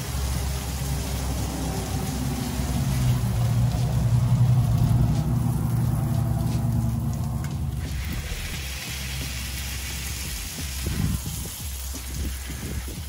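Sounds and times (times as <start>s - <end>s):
car engine passing: 0.0s - 11.1s.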